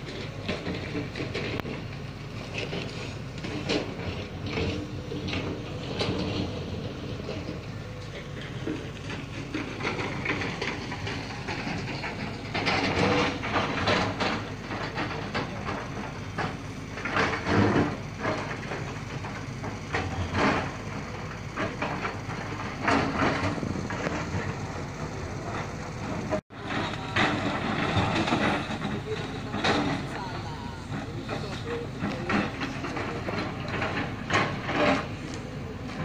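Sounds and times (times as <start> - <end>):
excavator rumbling: 0.0 - 36.0.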